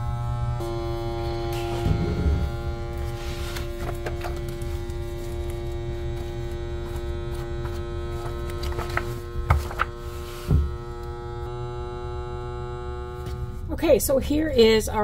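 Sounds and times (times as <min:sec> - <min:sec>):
vacuum sealer motor hum: 0:00.0 - 0:13.8.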